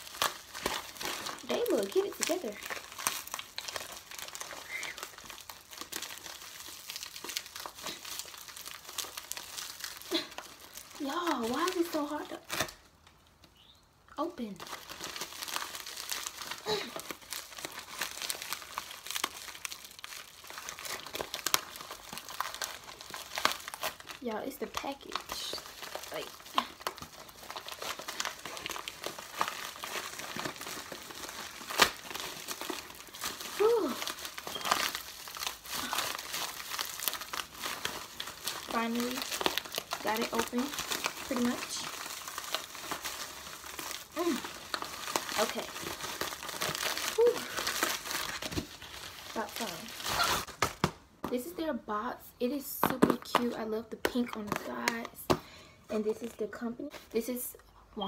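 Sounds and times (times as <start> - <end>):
package wrapping crinkling: 0.0 - 13.7, 14.4 - 51.4, 52.8 - 57.3.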